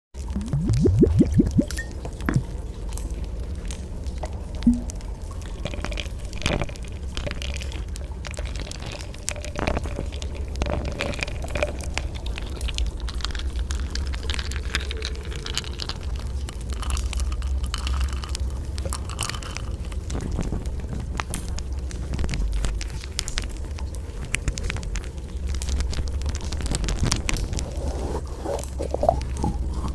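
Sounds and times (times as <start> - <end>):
drips and patters: 0.2 - 29.9
rain rumble: 0.2 - 29.9.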